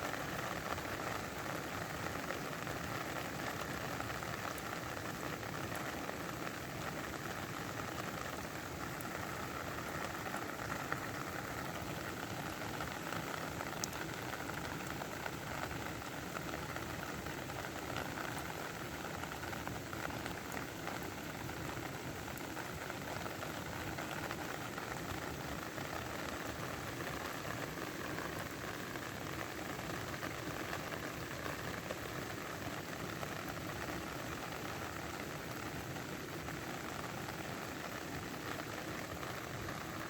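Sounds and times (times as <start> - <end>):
raindrops pattering: 0.0 - 40.0
steady rain hiss: 0.0 - 40.0.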